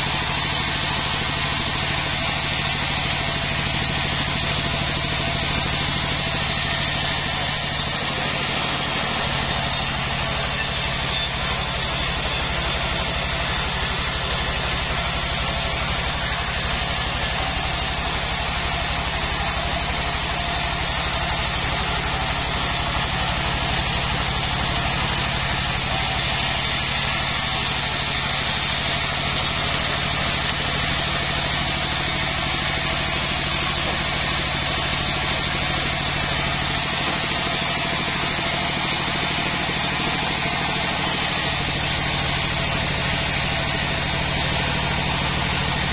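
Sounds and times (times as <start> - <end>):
band saw machine hum: 0.0 - 45.9.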